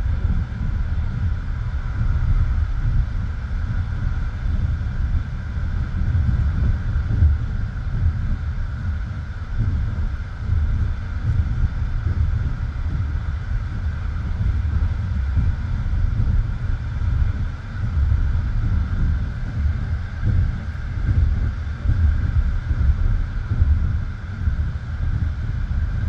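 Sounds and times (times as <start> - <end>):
constant hum: 0.0 - 26.0.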